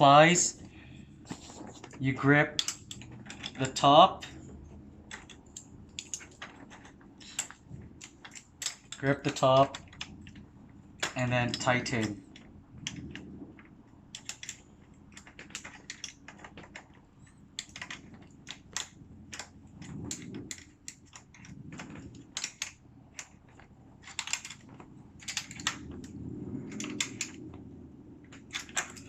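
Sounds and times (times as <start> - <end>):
soft handling rumbles: 0.0 - 29.0
wrenches clicking on metal: 1.9 - 4.5, 5.1 - 10.4, 11.0 - 29.0.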